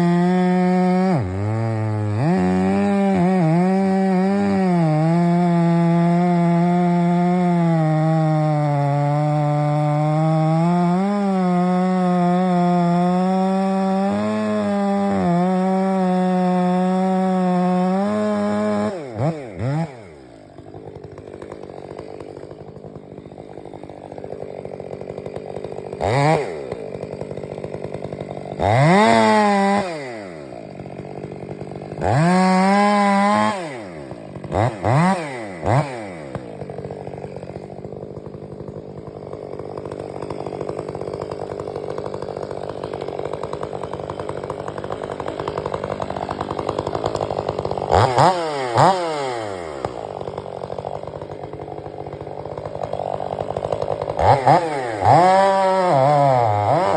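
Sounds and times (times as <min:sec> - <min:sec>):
chainsaw idling and revving: 0:00.0 - 0:56.9.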